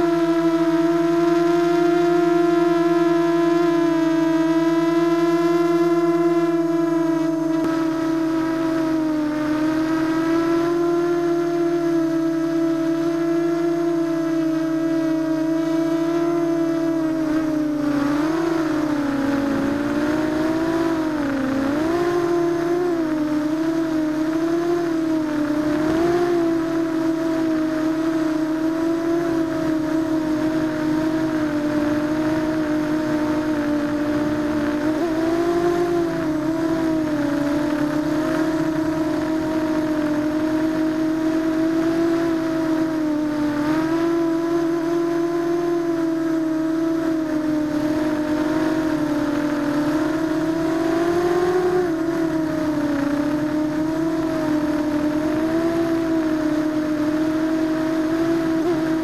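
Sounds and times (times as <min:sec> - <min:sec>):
quadcopter motors buzzing: 0:00.0 - 0:59.0.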